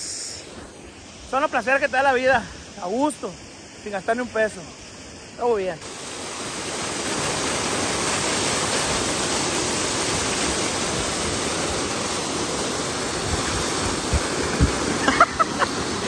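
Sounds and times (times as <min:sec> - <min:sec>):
river water rushing: 0:00.5 - 0:16.0.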